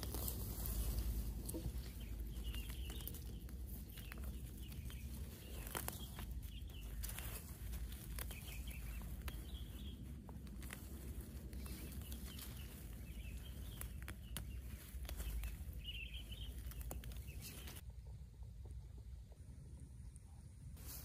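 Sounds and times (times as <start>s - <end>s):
steady low rumble: 0.0s - 21.0s
bird chirps: 0.1s - 17.8s.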